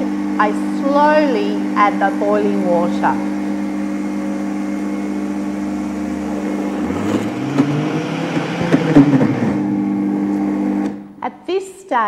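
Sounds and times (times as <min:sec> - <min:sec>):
blender motor running: 0:00.0 - 0:11.2.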